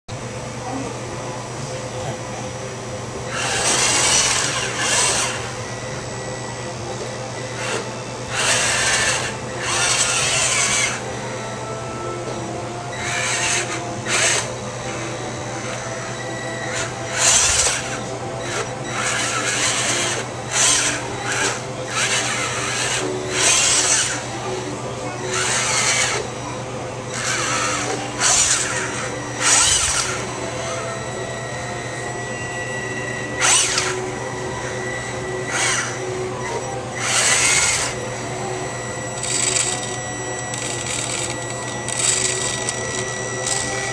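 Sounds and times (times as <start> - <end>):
toy bulldozer motors whirring: 3.3 - 6.3, 6.9 - 43.9.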